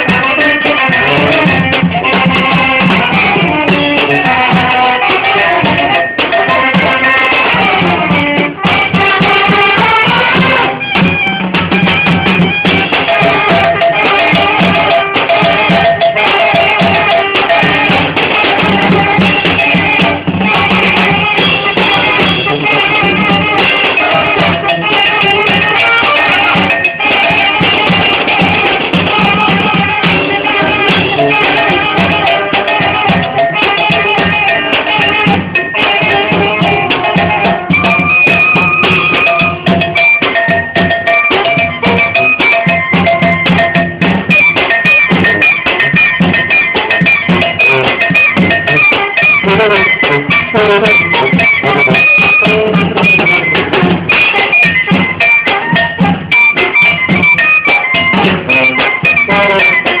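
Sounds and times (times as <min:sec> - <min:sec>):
sousaphone bass: 0:00.0 - 1:00.0
steady drum beat: 0:00.0 - 1:00.0
wind instrument melody: 0:00.0 - 1:00.0.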